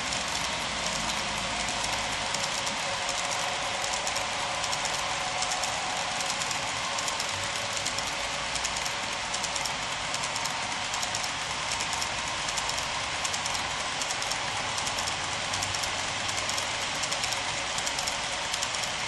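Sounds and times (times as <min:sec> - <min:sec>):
model train wheels clicking: 0:00.0 - 0:19.0.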